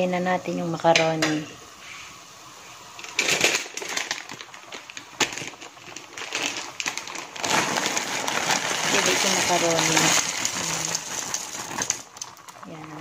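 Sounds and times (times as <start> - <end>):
broth boiling and popping: 0.0 - 13.0.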